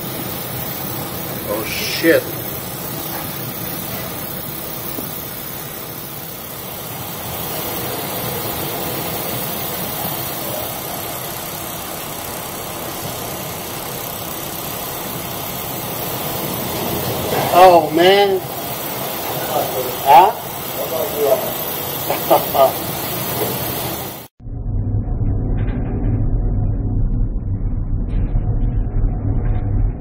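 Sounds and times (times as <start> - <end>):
ship machinery hum: 0.0 - 24.4.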